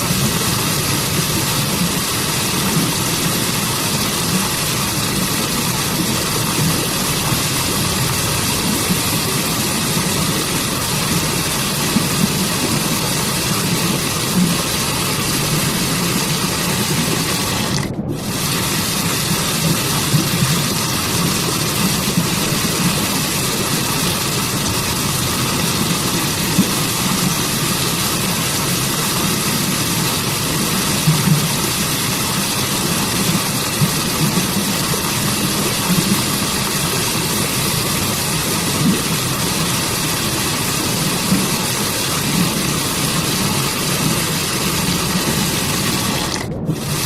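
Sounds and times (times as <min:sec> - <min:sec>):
waterfall and stream rushing: 0:00.0 - 0:47.0.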